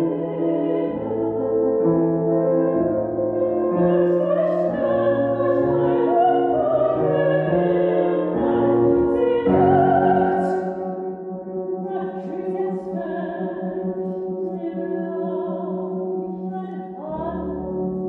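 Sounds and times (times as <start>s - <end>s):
operatic singing voice: 0.0s - 1.8s, 2.4s - 11.1s, 11.8s - 17.9s
slow classical music: 0.0s - 18.0s.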